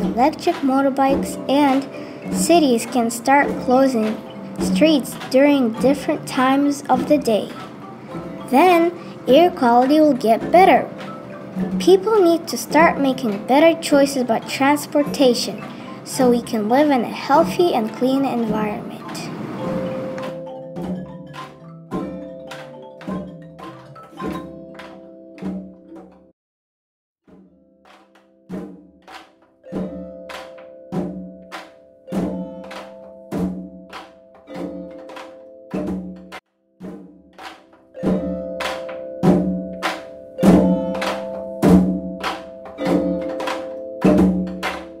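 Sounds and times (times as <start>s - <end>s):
drum beat over held chords: 0.0s - 6.2s, 6.9s - 13.0s, 19.5s - 26.2s, 27.9s - 45.0s
music of struck ringing notes: 0.0s - 12.0s, 17.5s - 26.3s, 27.5s - 45.0s.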